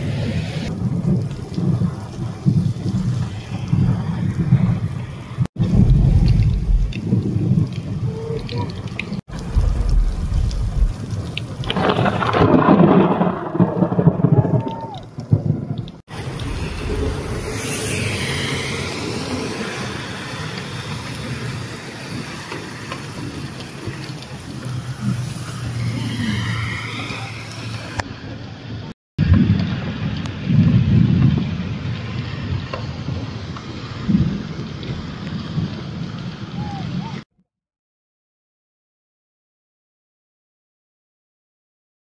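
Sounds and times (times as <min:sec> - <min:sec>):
floodwater rushing over rocks: 0:00.0 - 0:37.2
wind rumble on microphone: 0:00.0 - 0:37.2
heavy rain: 0:00.0 - 0:37.3.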